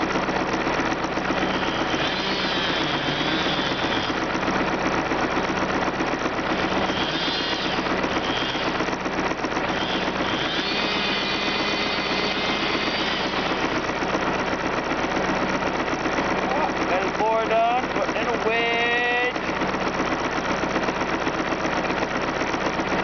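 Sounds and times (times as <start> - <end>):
engine mechanical clatter: 0.0 - 23.0.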